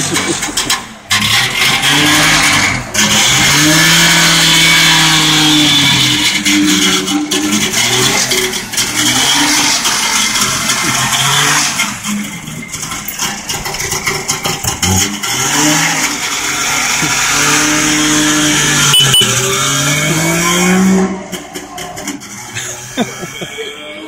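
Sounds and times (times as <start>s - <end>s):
two-stroke engine revving: 0.0s - 23.6s.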